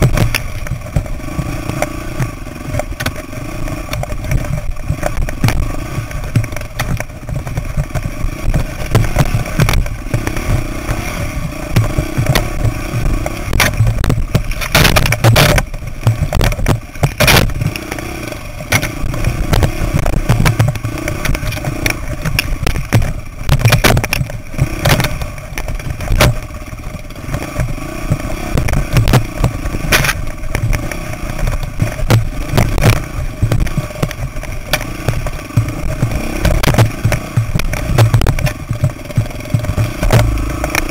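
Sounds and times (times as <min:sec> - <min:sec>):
dirt bike engine at low revs: 0:00.0 - 0:40.9
wheels knocking on rocks: 0:00.0 - 0:40.9.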